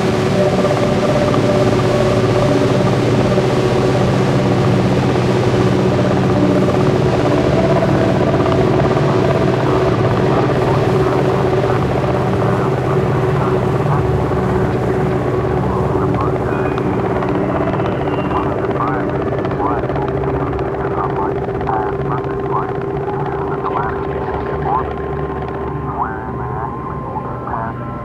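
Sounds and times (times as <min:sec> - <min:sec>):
dark ambient synthesizer drone: 0:00.0 - 0:28.0.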